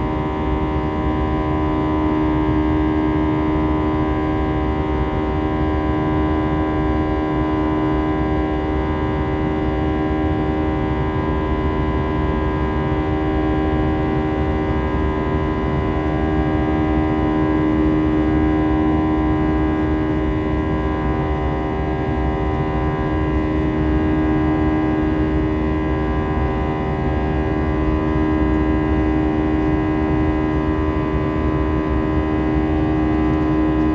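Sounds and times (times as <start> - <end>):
jet engine cabin drone: 0.0 - 33.9.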